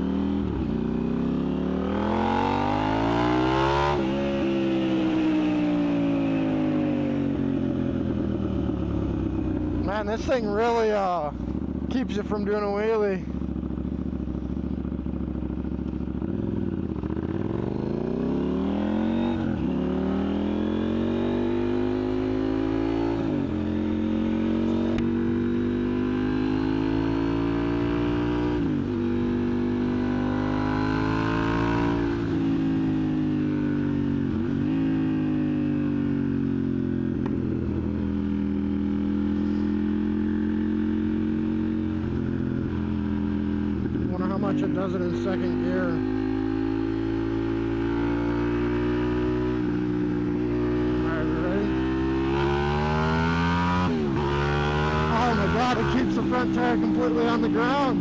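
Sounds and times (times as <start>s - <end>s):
motorcycle engine revving through gears: 0.0s - 12.6s, 13.3s - 58.0s.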